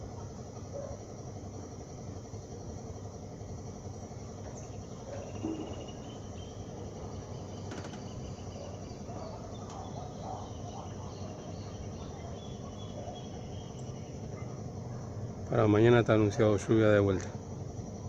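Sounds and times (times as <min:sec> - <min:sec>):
insects chirring: 0:00.0 - 0:18.0
low hum of distant traffic: 0:00.0 - 0:18.0.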